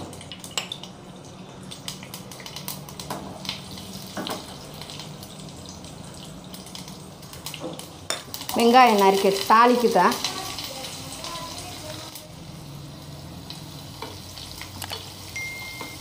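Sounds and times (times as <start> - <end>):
seeds sizzling in hot oil: 1.7 - 16.0.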